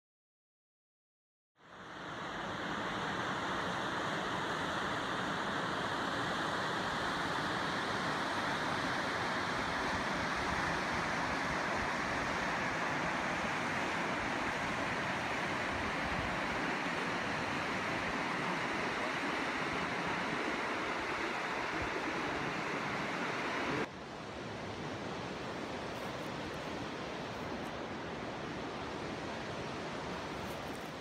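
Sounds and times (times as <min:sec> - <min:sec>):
river rushing over rapids: 0:01.7 - 0:31.0.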